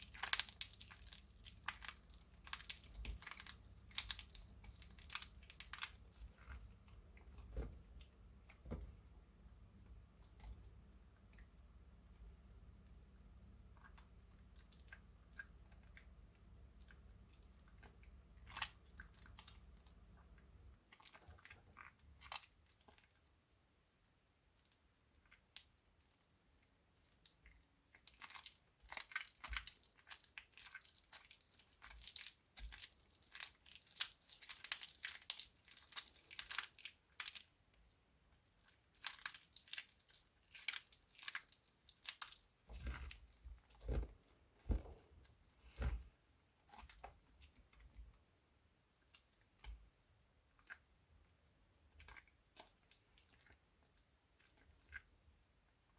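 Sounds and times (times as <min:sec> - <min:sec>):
soap crunching and crackling: 0:00.0 - 0:23.4, 0:24.6 - 0:55.9.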